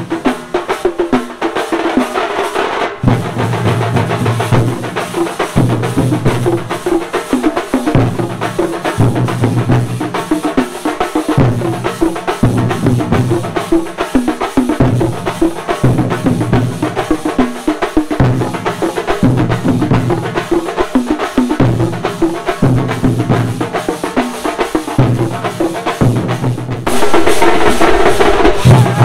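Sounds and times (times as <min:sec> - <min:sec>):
drum troupe playing fast strokes: 0:00.0 - 0:29.0.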